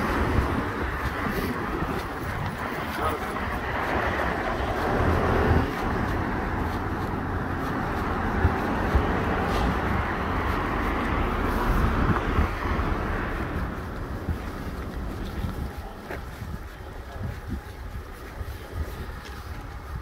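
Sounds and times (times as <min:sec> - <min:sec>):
road traffic hiss: 0:00.0 - 0:20.0
wind rumbling on microphone: 0:00.0 - 0:20.0.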